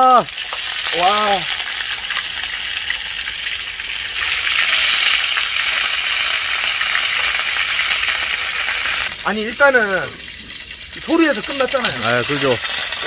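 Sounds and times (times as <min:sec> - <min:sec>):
dumplings sizzling in a frying pan: 0:00.0 - 0:13.0.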